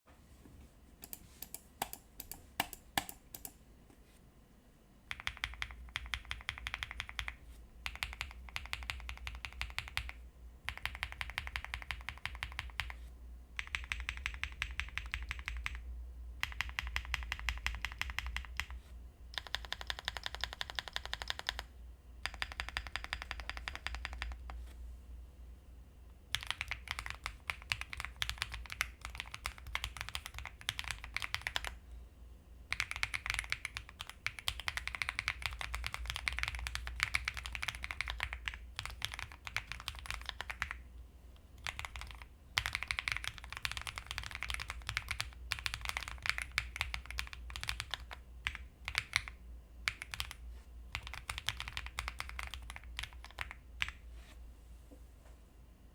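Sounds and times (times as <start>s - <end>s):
mechanical keyboard typing: 1.0s - 3.6s, 5.1s - 13.0s, 13.6s - 24.6s, 26.3s - 31.8s, 32.7s - 40.8s, 41.6s - 54.0s.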